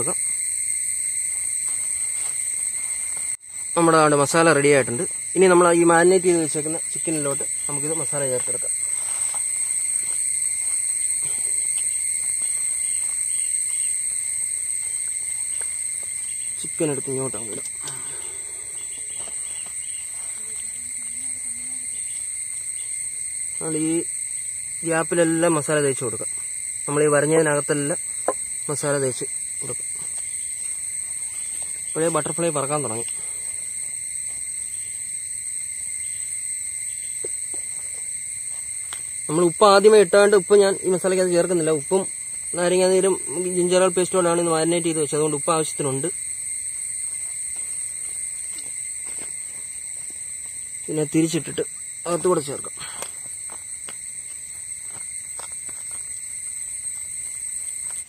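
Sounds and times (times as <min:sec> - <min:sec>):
shrill insect chorus: 0:00.0 - 0:58.0.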